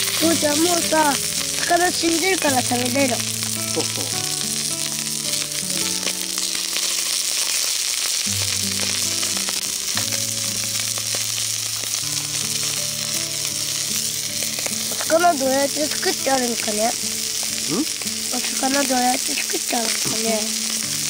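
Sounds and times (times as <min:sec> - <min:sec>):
fish sizzling on a griddle: 0:00.0 - 0:21.0
soft background music: 0:00.0 - 0:21.0.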